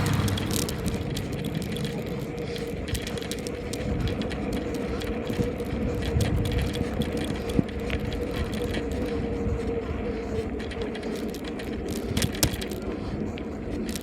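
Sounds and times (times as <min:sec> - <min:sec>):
low rumble: 0:00.0 - 0:13.8
bicycle parts rattling and clicking: 0:00.0 - 0:14.0.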